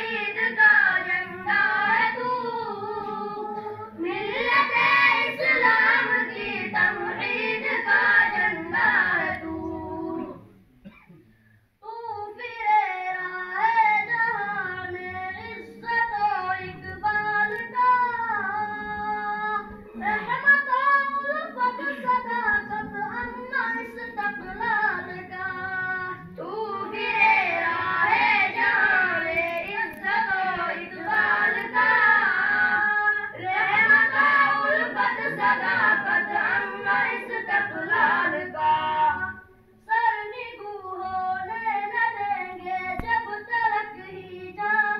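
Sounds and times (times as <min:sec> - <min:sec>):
voices chanting melodic recitation: 0:00.0 - 0:11.0, 0:12.2 - 0:44.9.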